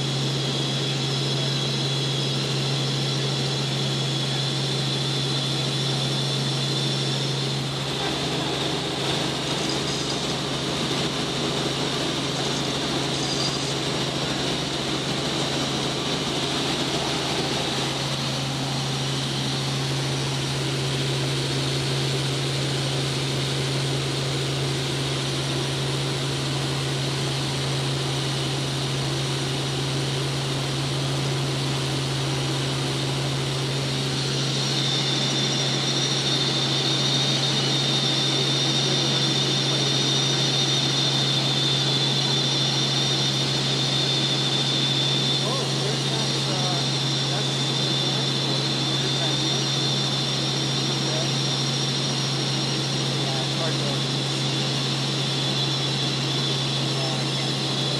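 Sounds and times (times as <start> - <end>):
helicopter drone: 0.0 - 57.9
high whine: 0.0 - 57.9.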